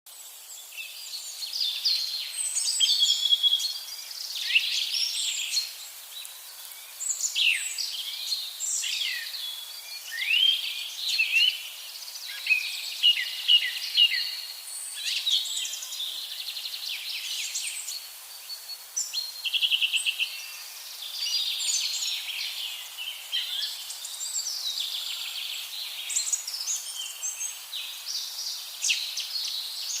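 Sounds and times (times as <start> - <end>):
songbirds chirping and whistling: 0.6 - 30.0.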